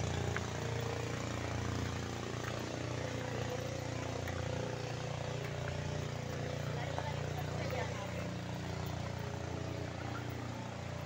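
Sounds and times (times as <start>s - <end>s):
motorboat engines droning: 0.0s - 11.0s.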